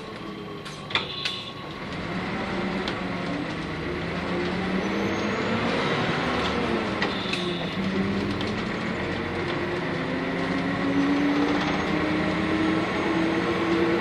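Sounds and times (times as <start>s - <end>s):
bus engine accelerating: 0.0s - 14.0s.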